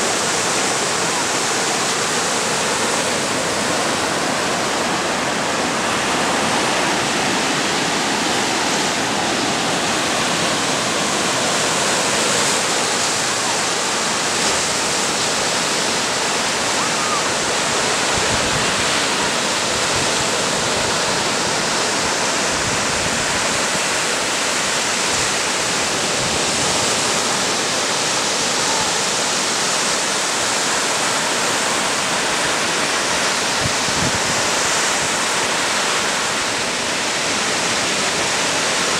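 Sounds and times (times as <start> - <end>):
ocean surf washing on beach: 0.0 - 38.9.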